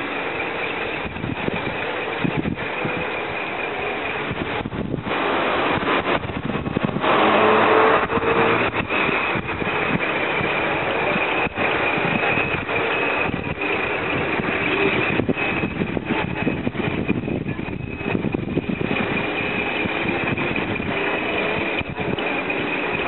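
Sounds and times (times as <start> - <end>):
diesel coach engine running: 0.0 - 23.0
steady high whine: 0.0 - 23.0.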